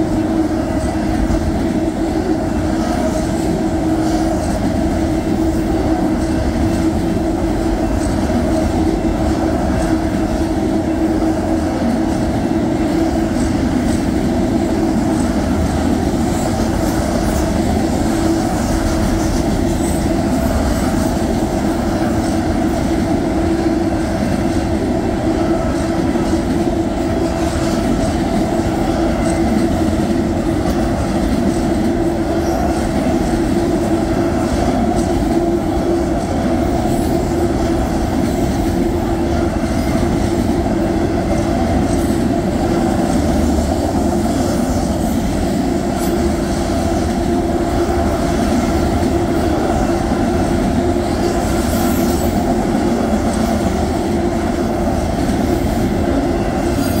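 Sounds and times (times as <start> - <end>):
train wheels running on rails: 0.0 - 57.0.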